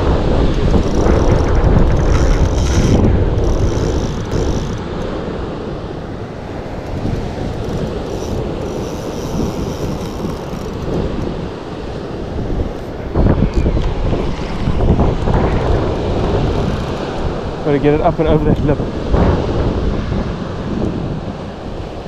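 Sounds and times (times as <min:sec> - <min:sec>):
breaking surf: 0:00.0 - 0:22.0
wind buffeting microphone: 0:00.0 - 0:22.0.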